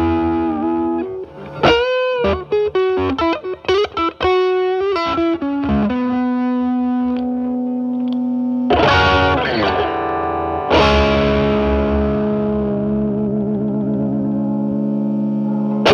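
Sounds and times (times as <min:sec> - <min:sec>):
overdriven electric guitar: 0:00.0 - 0:15.9.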